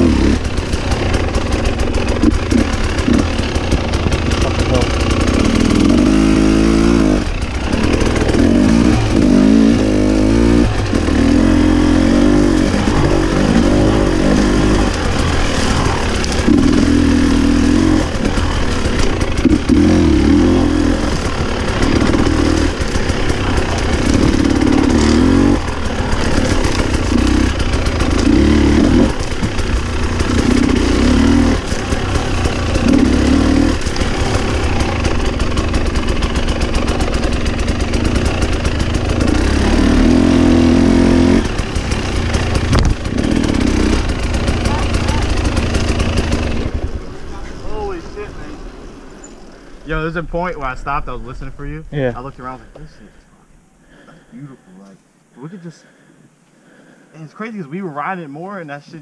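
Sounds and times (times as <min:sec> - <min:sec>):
motorcycle engine revving: 0:00.0 - 0:54.3.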